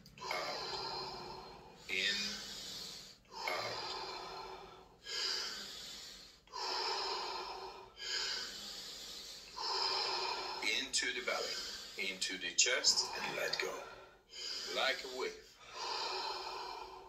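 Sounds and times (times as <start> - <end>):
man breathing deeply through mouth: 0.1 - 12.2, 12.8 - 17.0.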